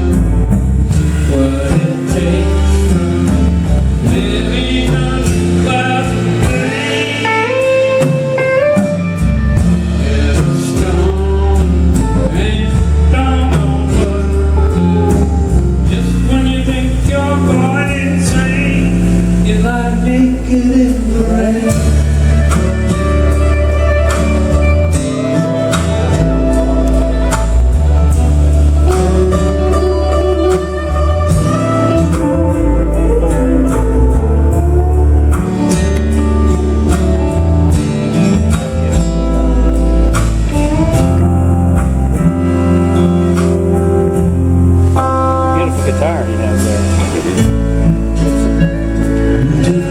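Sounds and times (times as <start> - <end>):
bass: 0.0 - 49.9
guitars: 0.0 - 49.9
person singing: 0.0 - 49.9.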